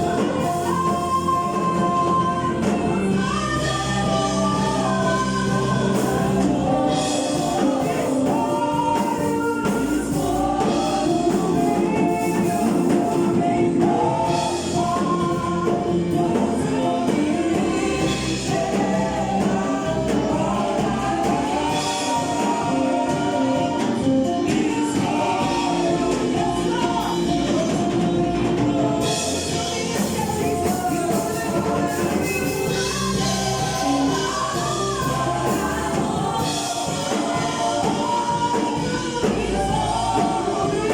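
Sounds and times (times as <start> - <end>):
gospel choir singing: 0.0 - 40.9.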